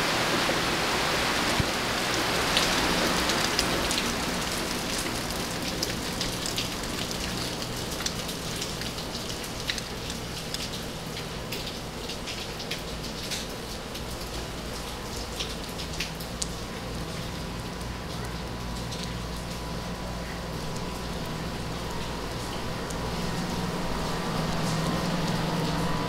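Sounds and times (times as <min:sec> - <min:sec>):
raindrops ticking on surfaces: 0:00.0 - 0:26.0
steady rain falling: 0:00.0 - 0:26.0.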